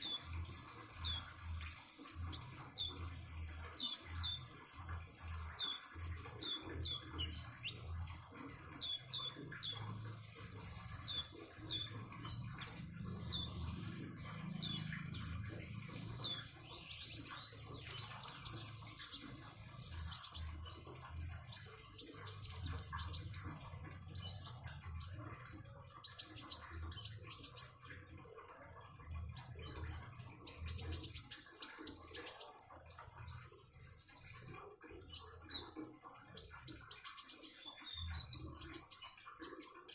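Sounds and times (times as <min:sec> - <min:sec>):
songbird singing: 0:00.0 - 0:39.9
trickling water: 0:00.0 - 0:39.9.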